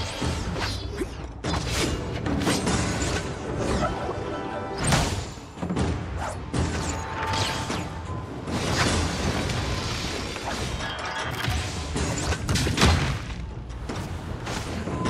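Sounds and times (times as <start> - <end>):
action background music: 0.0 - 15.0.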